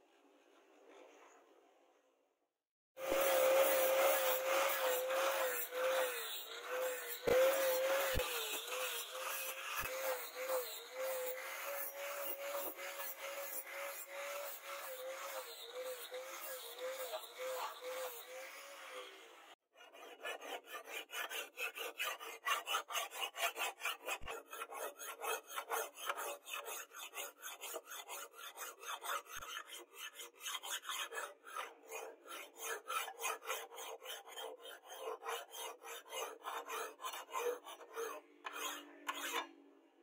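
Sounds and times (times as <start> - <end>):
hand file rasping on steel: 3.0 - 39.6.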